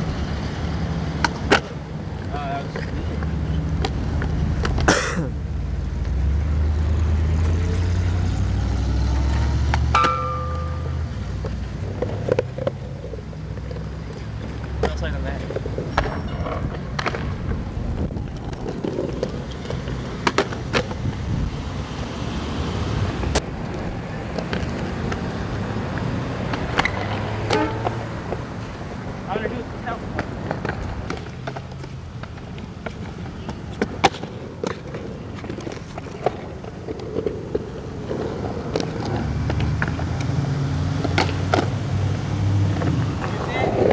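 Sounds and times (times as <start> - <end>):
skateboard wheels rolling on concrete: 0.0 - 43.9
skateboard clacking on pavement: 1.0 - 5.0, 9.2 - 22.1, 23.2 - 43.9.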